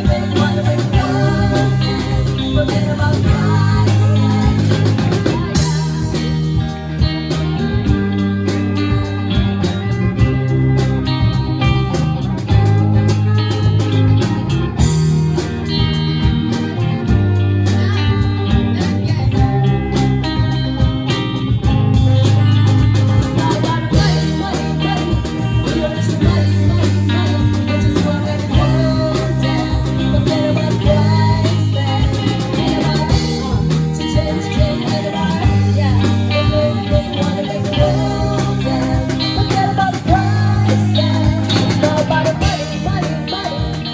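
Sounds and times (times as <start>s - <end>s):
bass line: 0.0s - 43.9s
guitar lead: 0.0s - 43.9s
person singing: 0.0s - 43.9s
steady drum beat: 0.0s - 43.9s.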